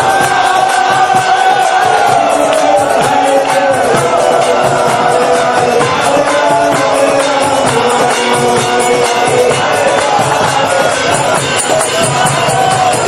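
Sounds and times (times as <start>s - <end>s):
devotional music held notes: 0.0s - 13.0s
jingling hand cymbals: 0.0s - 13.0s.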